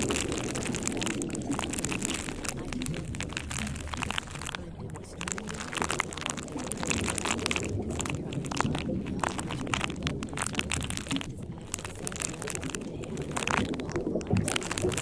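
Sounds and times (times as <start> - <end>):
constant low rumble: 0.0 - 15.0
dense irregular crackling: 0.0 - 15.0.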